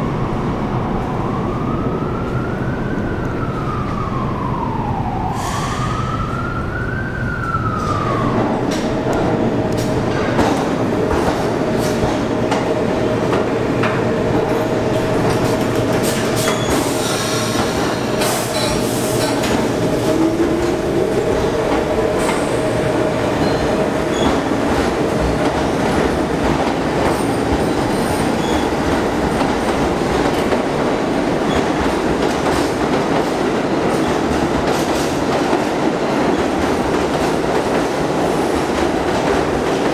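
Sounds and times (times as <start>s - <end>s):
train wheels rumbling on rails: 7.4s - 39.9s.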